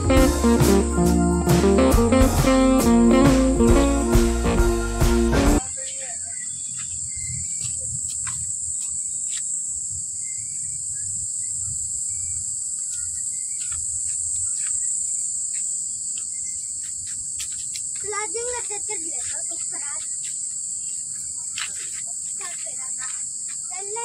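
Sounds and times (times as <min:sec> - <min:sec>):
insects buzzing: 0:00.0 - 0:04.8, 0:05.6 - 0:24.0.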